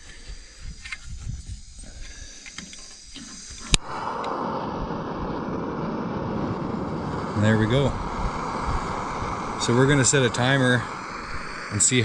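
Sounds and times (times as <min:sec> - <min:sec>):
faint gas hiss: 0:00.0 - 0:12.0
gas burner hissing: 0:00.0 - 0:12.0.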